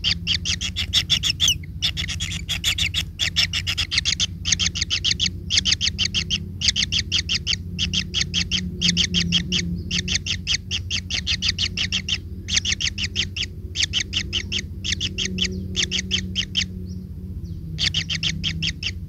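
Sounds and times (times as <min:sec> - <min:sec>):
bird chattering call: 0:00.0 - 0:16.8, 0:17.8 - 0:19.0
steady low hum: 0:00.0 - 0:19.0.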